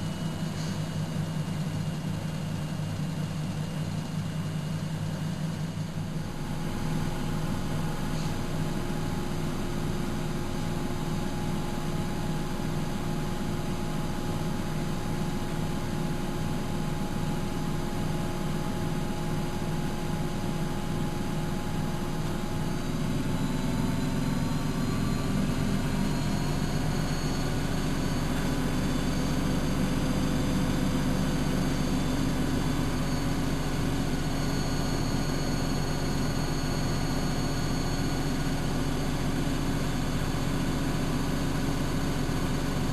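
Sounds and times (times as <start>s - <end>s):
washing machine motor hum: 0.0s - 42.9s.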